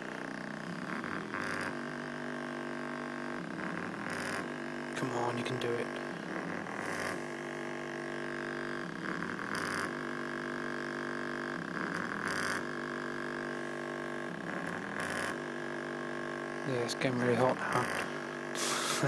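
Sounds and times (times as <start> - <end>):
distorted subwoofer buzz: 0.0 - 19.0.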